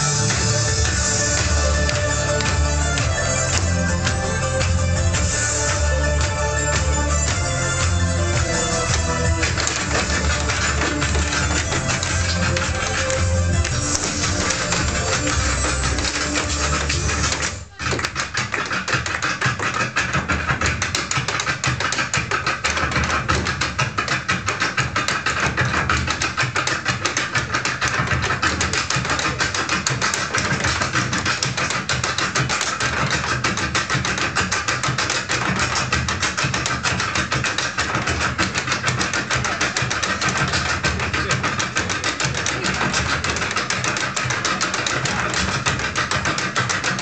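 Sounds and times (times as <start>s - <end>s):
dance shoes beating on wooden floor: 0.0s - 47.0s.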